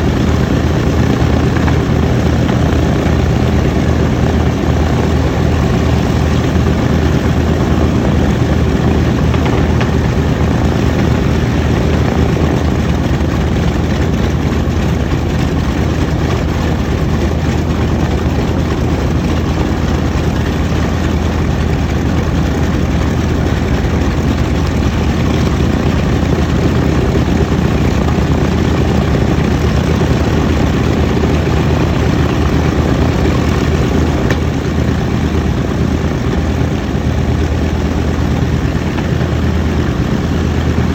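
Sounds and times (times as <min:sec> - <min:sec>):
propeller aircraft engines rumbling: 0:00.0 - 0:40.9.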